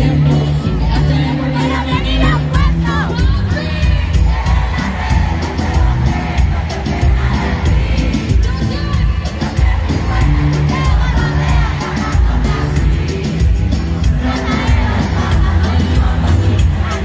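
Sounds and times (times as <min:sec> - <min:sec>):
amplified music with beat: 0:00.0 - 0:17.0
person singing: 0:00.0 - 0:17.0
crowd cheering: 0:00.5 - 0:17.0.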